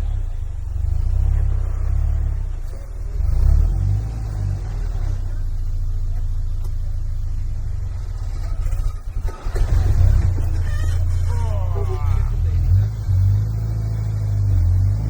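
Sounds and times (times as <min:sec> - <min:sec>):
off-road vehicle engine rumble: 0:00.0 - 0:15.0.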